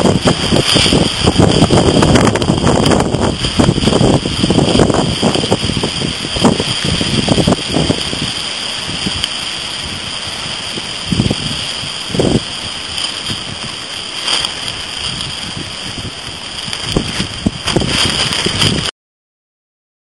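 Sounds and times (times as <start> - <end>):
surf breaking on shore: 0.0 - 18.9
wind buffeting microphone: 0.0 - 18.9.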